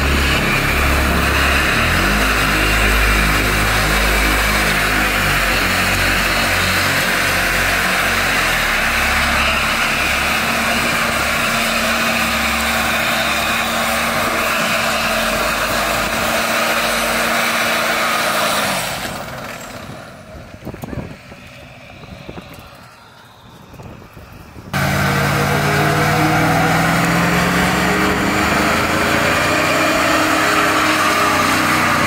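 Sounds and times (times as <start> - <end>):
truck engine revving high: 0.0 - 23.5, 24.5 - 32.0
tyres screeching on asphalt: 0.0 - 23.8, 24.8 - 32.0.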